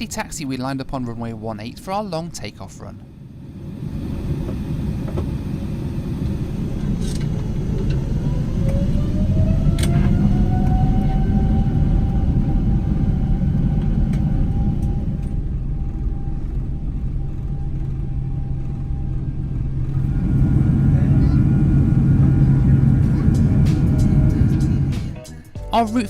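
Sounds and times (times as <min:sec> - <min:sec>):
jet engine whine: 0:00.0 - 0:25.5
jet engines rumbling: 0:00.0 - 0:25.6.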